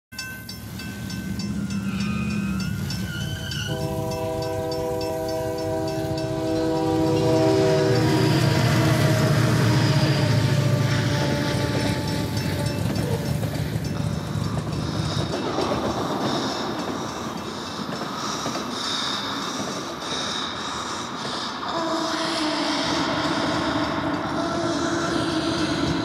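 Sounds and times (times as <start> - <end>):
freight train rumbling: 0.1 - 26.0.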